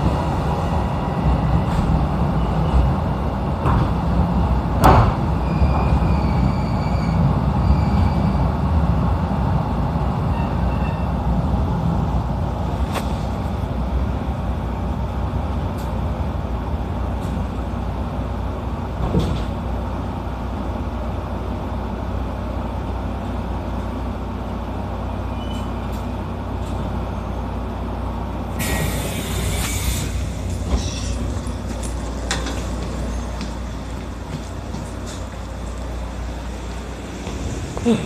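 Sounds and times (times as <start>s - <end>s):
train rumbling inside carriage: 0.0s - 38.0s.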